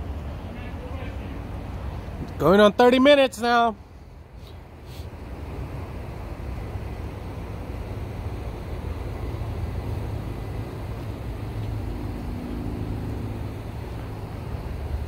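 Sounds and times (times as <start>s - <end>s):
low rumble of running vehicle: 0.0s - 15.0s.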